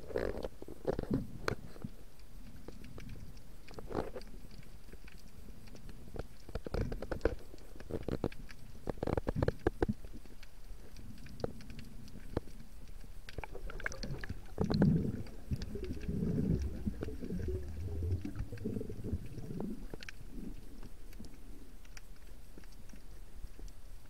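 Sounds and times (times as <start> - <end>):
faint clicks: 0.0 - 24.0
underwater gurgling and rumbling: 0.0 - 24.0.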